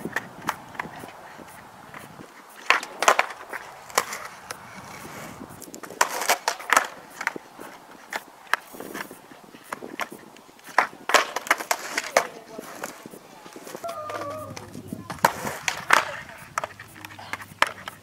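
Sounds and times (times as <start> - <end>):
skateboard clacking on concrete: 0.0 - 18.0.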